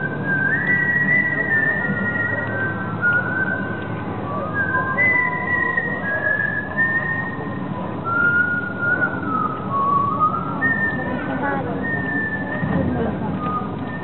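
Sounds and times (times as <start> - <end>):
low background noise: 0.0 - 14.0
whistled melody over loudspeakers: 0.0 - 14.0.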